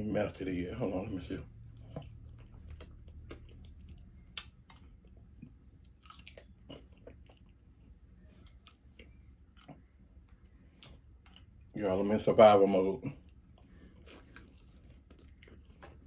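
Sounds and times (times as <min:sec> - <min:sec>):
chewing and biting: 0:01.6 - 0:11.7, 0:13.2 - 0:16.0.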